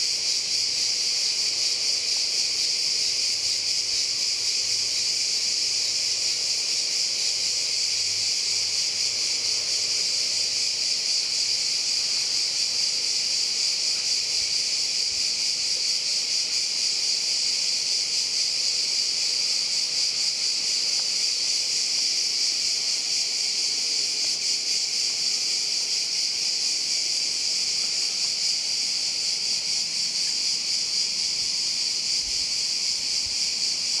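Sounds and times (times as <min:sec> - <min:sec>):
crickets chirring: 0:00.0 - 0:34.0.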